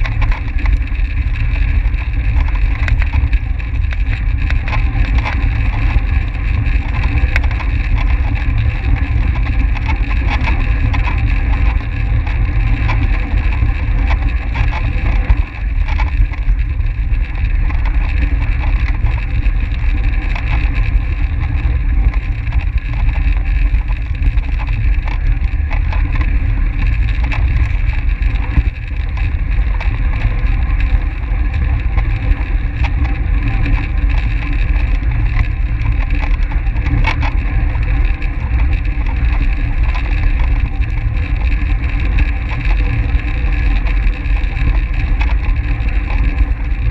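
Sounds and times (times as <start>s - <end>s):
wind rumble on microphone: 0.0s - 46.9s.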